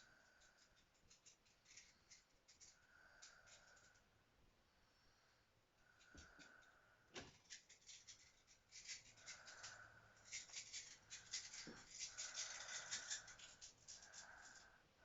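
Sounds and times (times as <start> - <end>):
person breathing while sleeping: 0.0 - 4.1, 4.7 - 7.3, 8.9 - 15.0.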